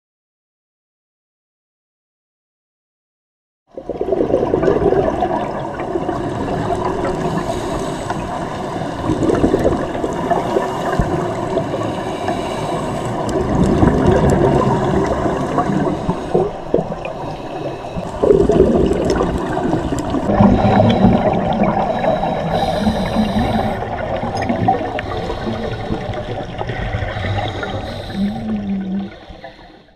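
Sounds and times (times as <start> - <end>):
underwater regulator bubbles gurgling: 3.7 - 29.9.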